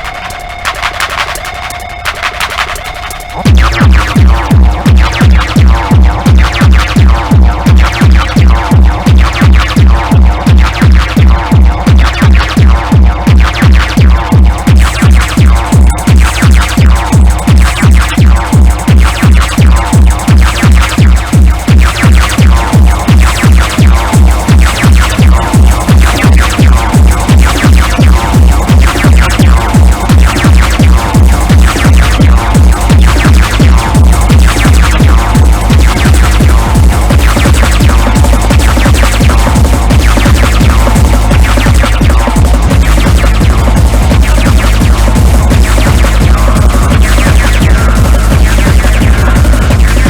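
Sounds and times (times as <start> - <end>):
electronic dance music: 0.0 - 50.0
heavy kick drum: 0.0 - 50.0.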